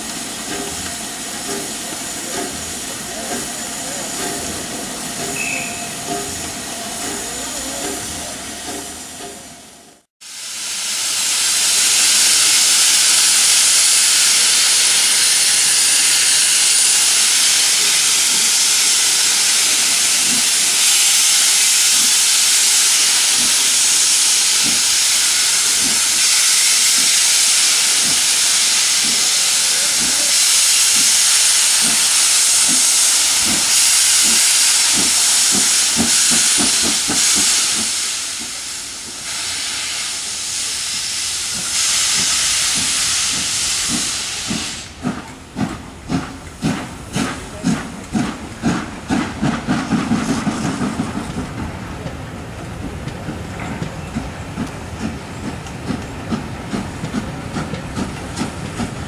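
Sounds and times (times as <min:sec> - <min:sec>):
steam hissing from locomotive: 0:00.0 - 0:52.0, 0:53.3 - 0:59.0.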